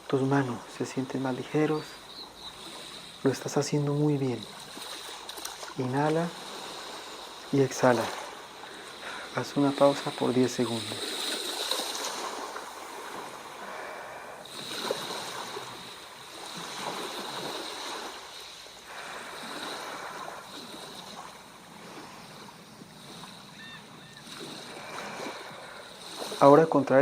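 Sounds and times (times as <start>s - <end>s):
sea waves breaking on shore: 0.0s - 27.0s.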